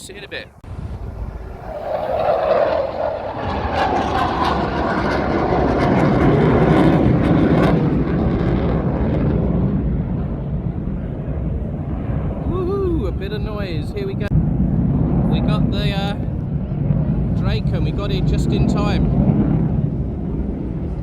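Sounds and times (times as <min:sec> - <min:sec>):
jet fighter roar flying past: 0:00.1 - 0:21.0.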